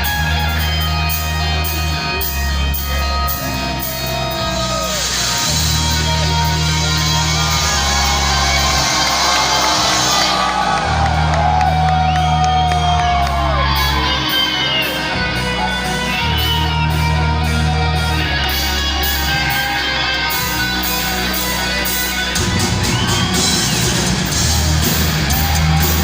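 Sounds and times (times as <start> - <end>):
distorted electric guitar lead: 0.0 - 26.0
heavy metal band playing live: 0.0 - 26.0
crowd shouts: 3.5 - 26.0.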